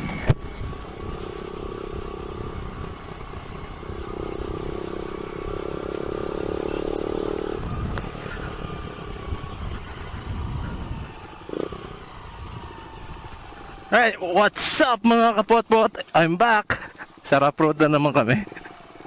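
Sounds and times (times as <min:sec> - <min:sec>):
low wind rumble: 0:00.0 - 0:17.3
motorcycle engine cruising: 0:00.0 - 0:19.0.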